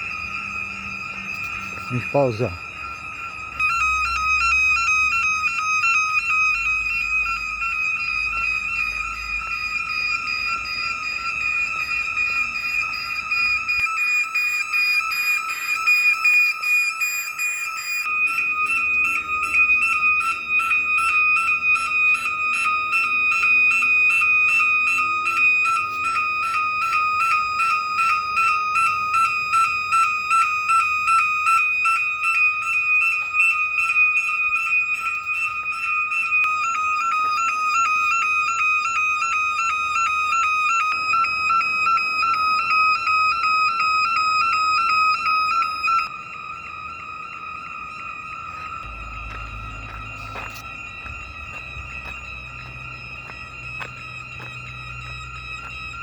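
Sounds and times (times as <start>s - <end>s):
fire alarm pulsing tone: 0.0s - 56.0s.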